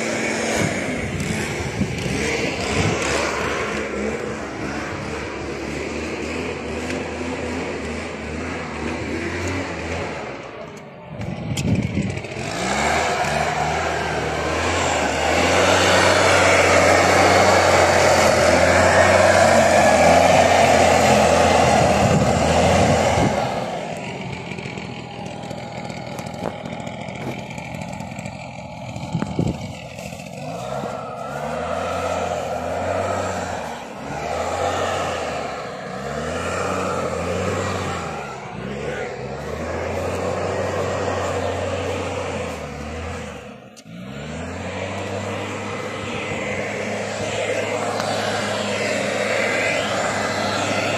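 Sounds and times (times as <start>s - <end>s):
loud steady rushing noise: 0.0s - 50.9s
small petrol engine running: 0.0s - 50.9s.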